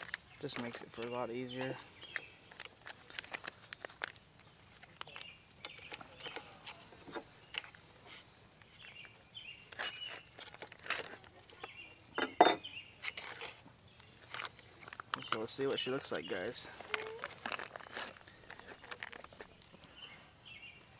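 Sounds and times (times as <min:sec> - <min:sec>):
foil pouch crinkling: 0:00.0 - 0:08.9, 0:09.6 - 0:11.7, 0:13.0 - 0:20.2
birds chirping: 0:00.0 - 0:10.5, 0:11.1 - 0:20.9.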